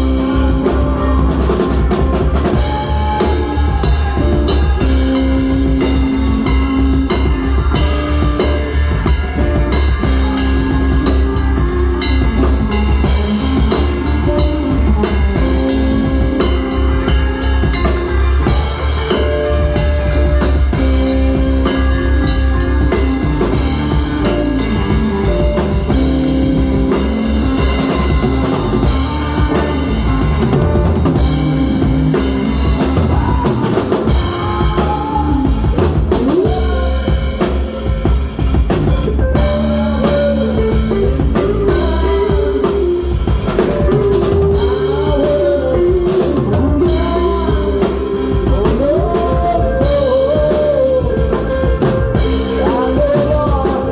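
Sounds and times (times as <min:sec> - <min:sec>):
guitar lead bending notes: 0:00.0 - 0:53.9
rock band playing live: 0:00.0 - 0:53.9.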